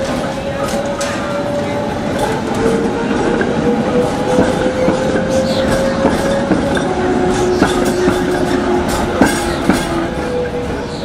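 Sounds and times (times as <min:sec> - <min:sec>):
tram whine: 0:00.0 - 0:11.0
wheels clacking over rail joints: 0:00.0 - 0:11.0.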